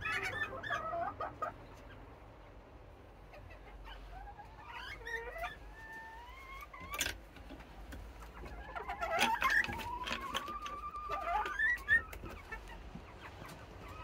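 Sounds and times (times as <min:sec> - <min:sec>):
hens calling: 0:00.0 - 0:14.0.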